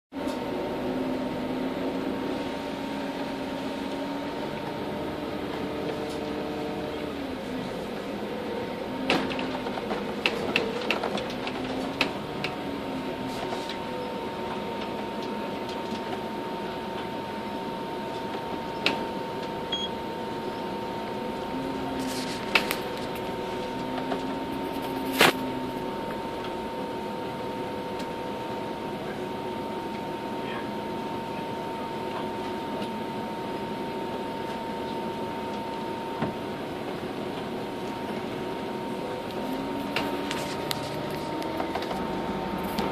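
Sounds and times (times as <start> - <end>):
vehicle cabin hum and road noise: 0.2 - 42.9.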